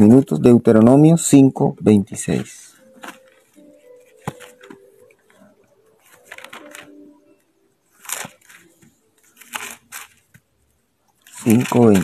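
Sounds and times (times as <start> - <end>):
book pages turning: 2.3 - 12.0.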